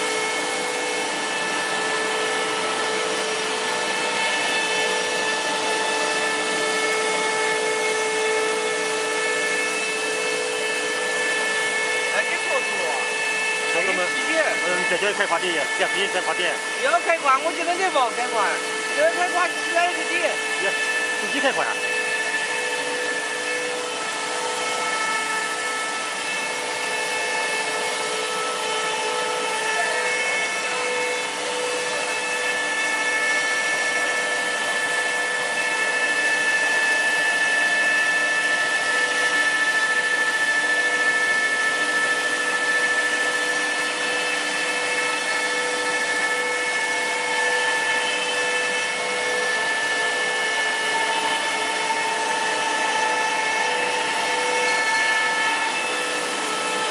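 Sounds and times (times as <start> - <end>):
machine whine: 0.0 - 56.9.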